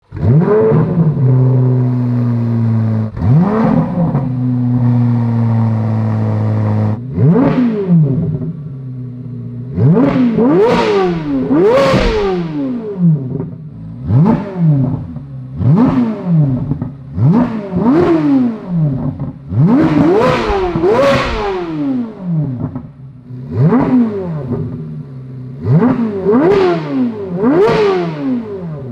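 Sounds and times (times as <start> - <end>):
sports car engine revving: 0.0 - 28.9.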